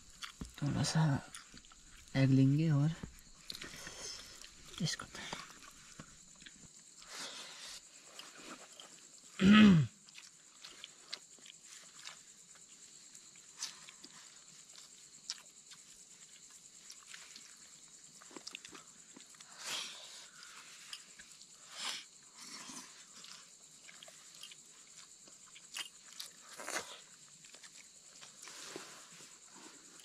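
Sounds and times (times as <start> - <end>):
chewing: 0.0 - 2.1, 3.0 - 30.0.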